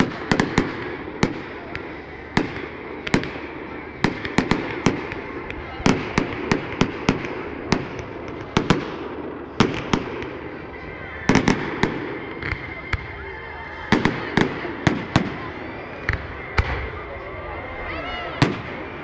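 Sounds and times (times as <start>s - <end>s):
steady background haze: 0.0s - 19.0s.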